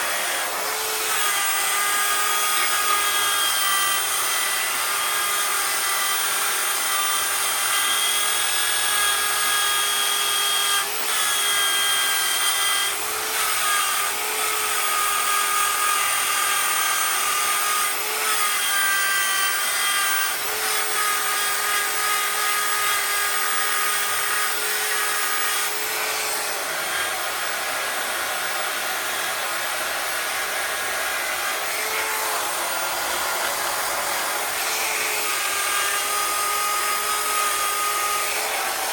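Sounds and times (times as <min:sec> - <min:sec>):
power tool whining: 0:00.0 - 0:38.9.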